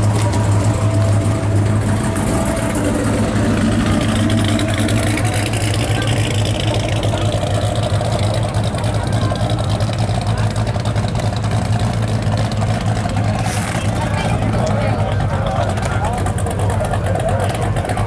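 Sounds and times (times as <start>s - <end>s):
car engine idling: 0.0s - 18.0s
crowd voices: 0.0s - 18.0s.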